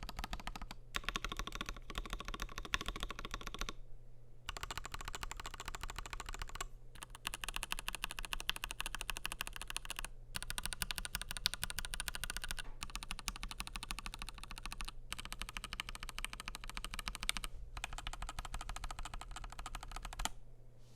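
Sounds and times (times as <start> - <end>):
fast typing on mechanical keyboard: 0.0 - 3.8, 4.5 - 20.3.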